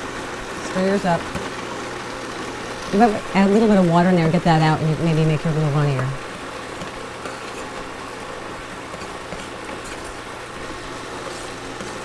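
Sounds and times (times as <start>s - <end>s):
food processor grinding: 0.0s - 12.0s.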